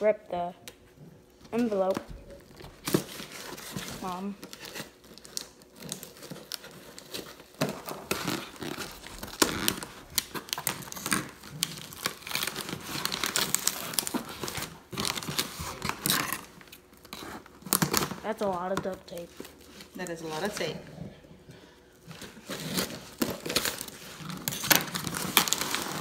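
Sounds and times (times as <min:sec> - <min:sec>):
tape and plastic tearing off box: 0:02.6 - 0:20.6, 0:22.1 - 0:26.0.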